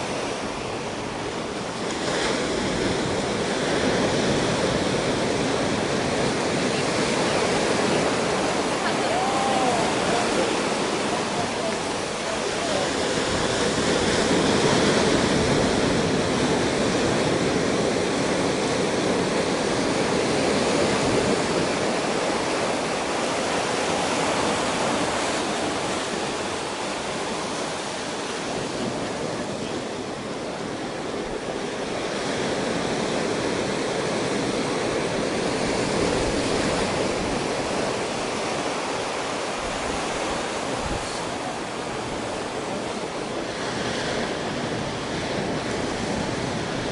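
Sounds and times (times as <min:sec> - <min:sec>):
ocean surf on beach: 0:00.0 - 0:46.9.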